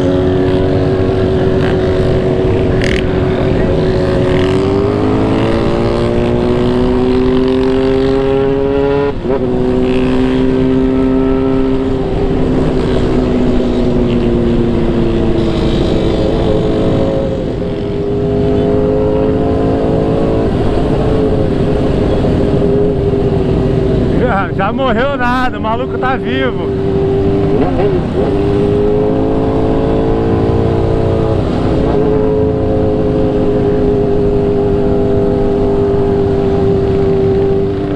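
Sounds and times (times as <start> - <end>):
motorcycle engine revving: 0.0 - 37.9
wind rumble: 0.0 - 37.9.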